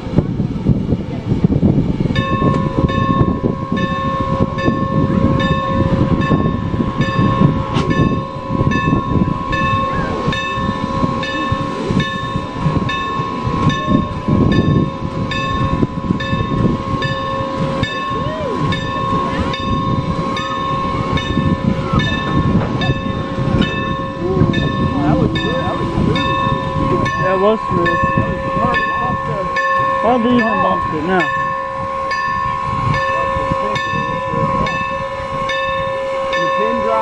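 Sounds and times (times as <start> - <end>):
steam engine rumble and hiss: 0.0 - 37.0
locomotive bell ringing: 1.8 - 37.0.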